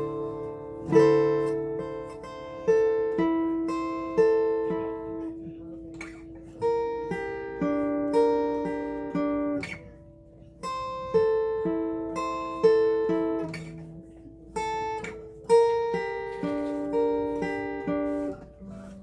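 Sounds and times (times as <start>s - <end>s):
acoustic guitar plucked slowly: 0.0s - 19.0s.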